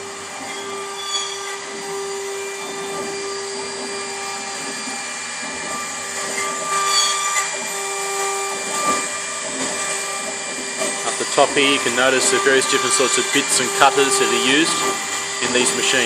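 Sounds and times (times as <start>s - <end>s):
cutter machining wood: 0.0s - 16.0s
milling spindle high whine: 0.0s - 16.0s.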